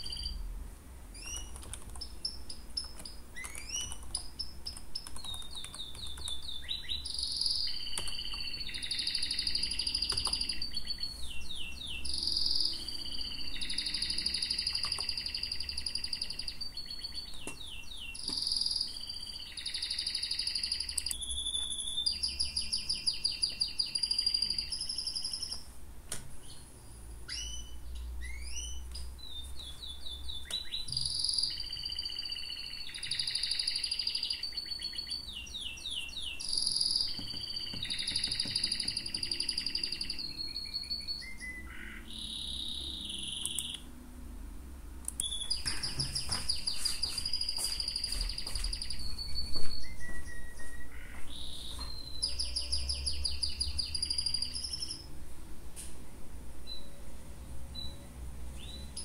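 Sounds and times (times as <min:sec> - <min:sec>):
songbirds singing: 0:00.0 - 0:00.5, 0:01.1 - 0:44.1, 0:45.1 - 0:55.1, 0:56.6 - 0:59.0.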